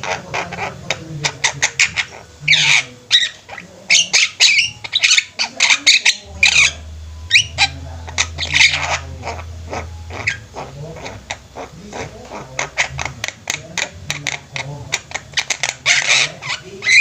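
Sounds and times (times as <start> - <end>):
birds squawking and chattering: 0.0 - 17.0
low steady hum: 0.0 - 17.0.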